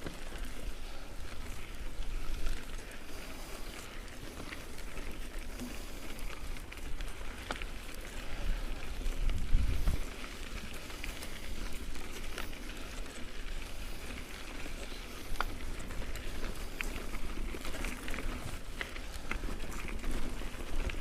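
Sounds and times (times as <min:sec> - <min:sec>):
bike tyres crunching on gravel: 0:00.0 - 0:21.0.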